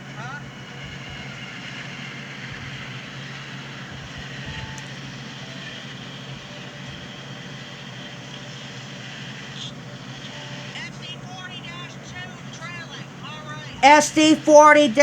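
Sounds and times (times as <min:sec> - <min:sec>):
diesel locomotive drone: 0:00.0 - 0:15.0
rail noise: 0:00.0 - 0:15.0.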